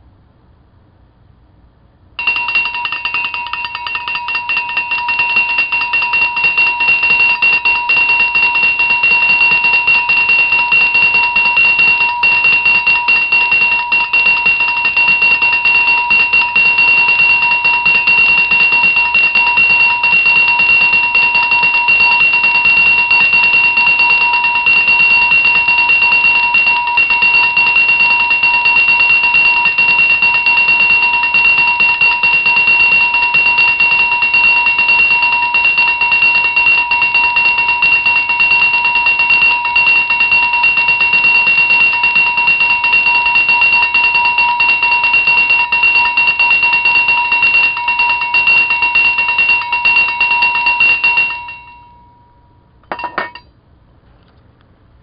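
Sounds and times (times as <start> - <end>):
cowbell ringing fast: 2.2 - 52.2, 52.9 - 53.4.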